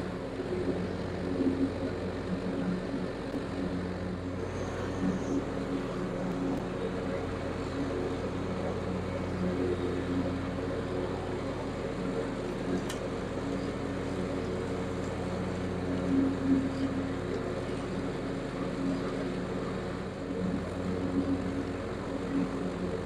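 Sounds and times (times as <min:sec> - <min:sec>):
ride-on mower engine running: 0:00.0 - 0:23.0.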